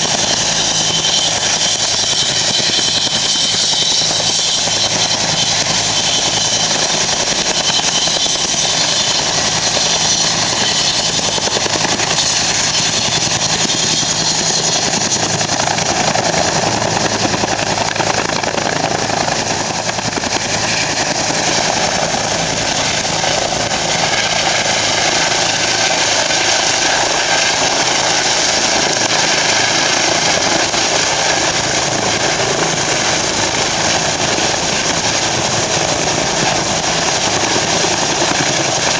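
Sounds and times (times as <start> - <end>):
helicopter rotor and turbine noise: 0.0 - 38.9
high turbine whine: 0.0 - 38.9.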